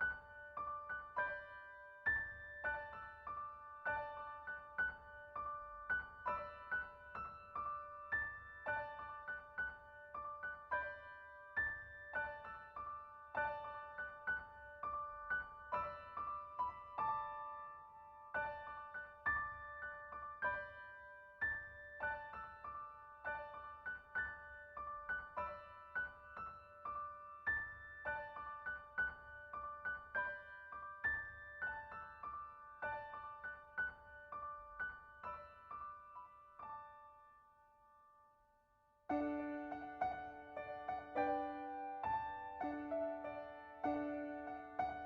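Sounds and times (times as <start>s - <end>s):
piano melody: 0.0s - 38.4s, 39.1s - 45.0s.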